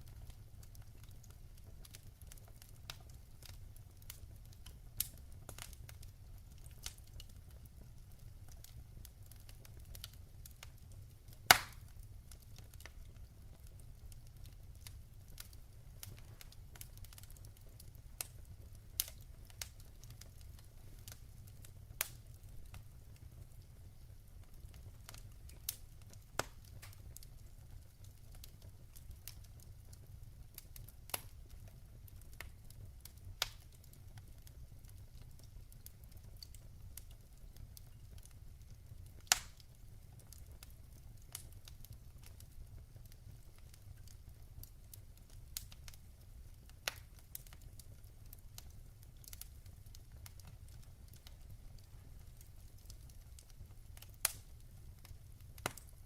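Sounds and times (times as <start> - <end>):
burning wood crackling and popping: 0.0 - 56.0.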